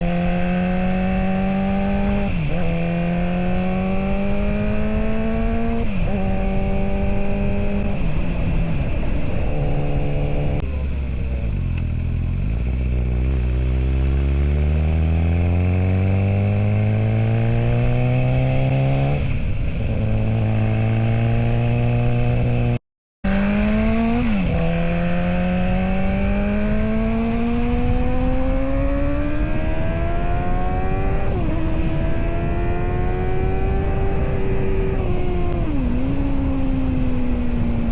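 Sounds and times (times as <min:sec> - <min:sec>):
motorcycle engine revving through gears: 0:00.0 - 0:37.9.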